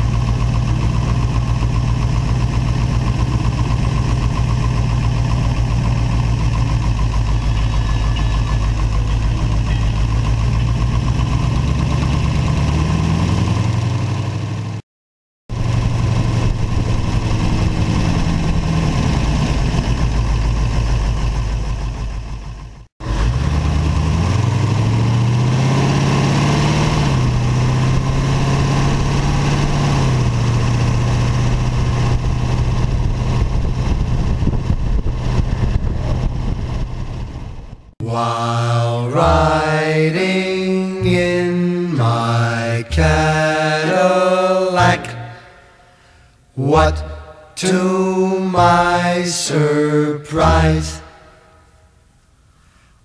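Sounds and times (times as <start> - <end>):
car engine revving: 0.0 - 14.8, 15.5 - 51.8.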